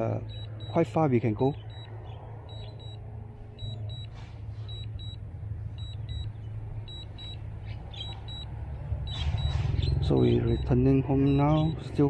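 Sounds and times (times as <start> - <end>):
steady low rumble: 0.0 - 12.0
remote controller double beeps: 0.2 - 0.9, 1.6 - 1.9, 2.5 - 12.0.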